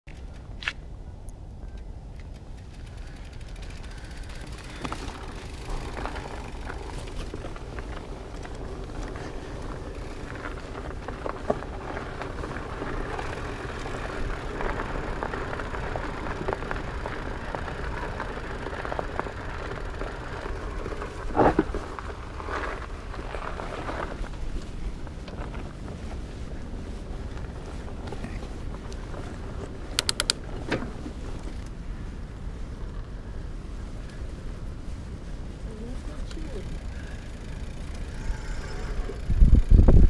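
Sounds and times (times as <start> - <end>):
bike rattles and clicks: 0.1 - 40.0
bike tyres rolling over gravel: 0.1 - 40.0
wind rumble on microphone: 0.1 - 40.0.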